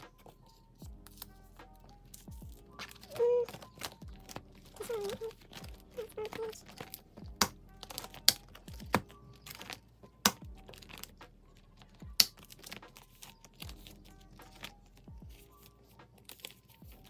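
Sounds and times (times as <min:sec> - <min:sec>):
plastic sleeves crinkling: 0:00.0 - 0:17.0.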